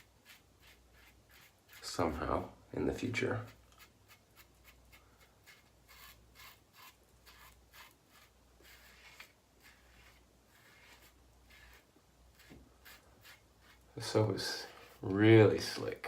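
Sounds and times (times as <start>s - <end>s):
razor scratching through stubble: 0.0s - 2.2s, 3.2s - 15.6s.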